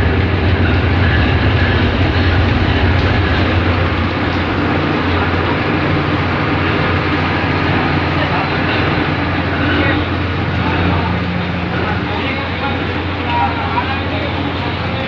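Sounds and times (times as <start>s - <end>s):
deep constant rumble: 0.0s - 15.0s
heavy rain: 0.0s - 15.0s
wind: 0.0s - 15.0s.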